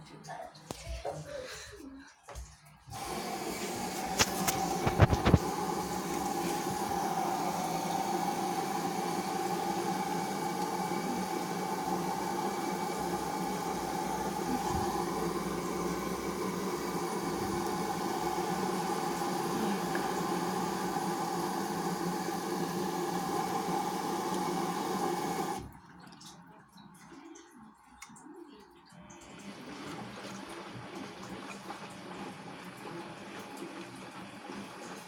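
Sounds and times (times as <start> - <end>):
washing machine humming: 2.8 - 35.0.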